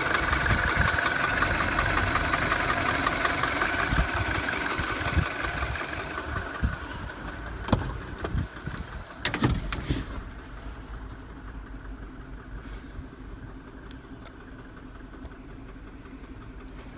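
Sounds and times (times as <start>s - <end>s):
car engine idling with ticking: 0.0s - 16.9s.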